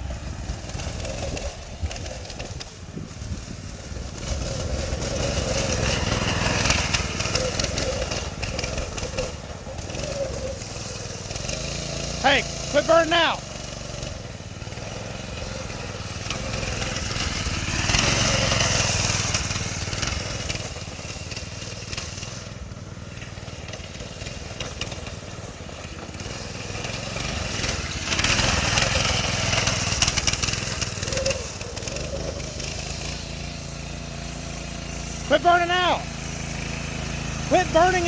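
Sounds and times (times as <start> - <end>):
go-kart engine running: 0.0 - 38.0.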